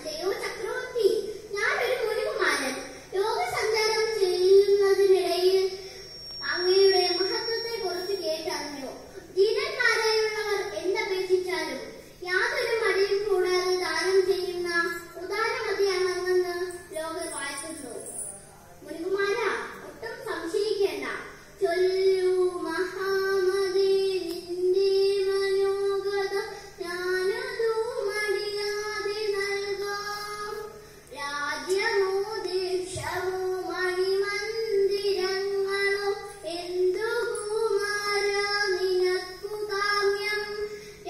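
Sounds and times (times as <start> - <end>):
girl singing into a microphone: 0.0 - 41.0.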